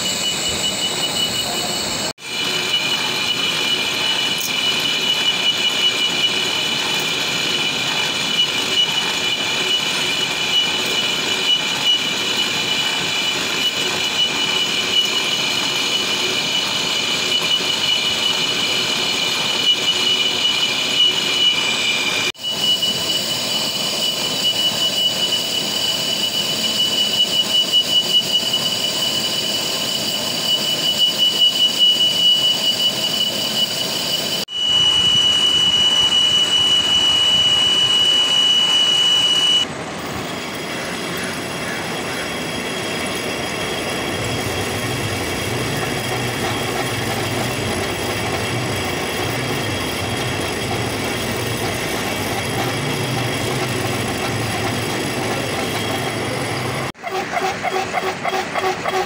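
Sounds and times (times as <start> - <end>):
boring bar grinding metal: 0.0 - 59.0
lathe tool squealing on steel: 0.0 - 59.0.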